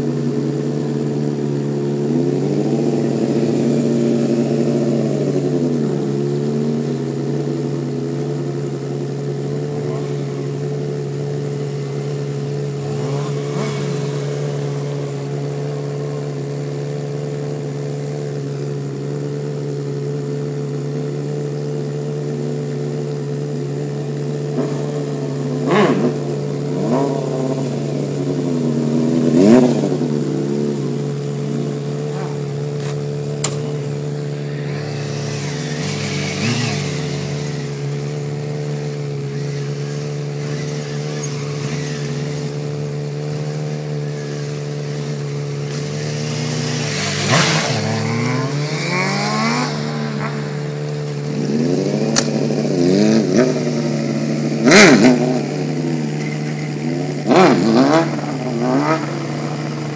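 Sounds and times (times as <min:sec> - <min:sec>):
motorcycle revving: 0:00.0 - 0:59.9
steady engine drone: 0:00.0 - 0:59.9.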